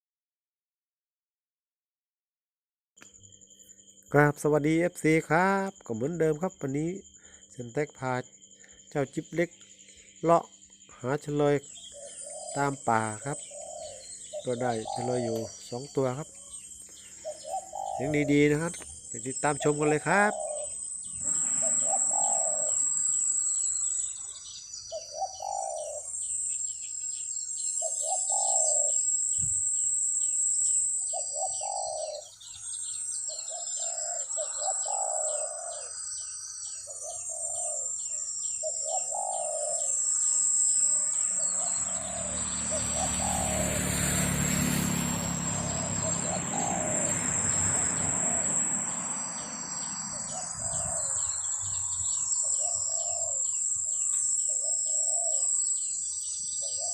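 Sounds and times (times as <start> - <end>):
high insect buzz: 3.2 - 33.8, 34.7 - 56.9
doves cooing: 10.3 - 30.4, 31.0 - 56.9.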